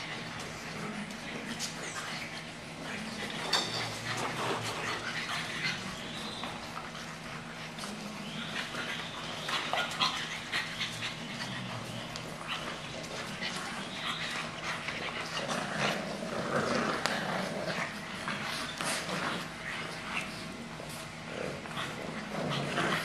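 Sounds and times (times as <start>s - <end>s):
puppies vocalizing: 0.0s - 23.0s
steady low hum: 0.0s - 23.0s.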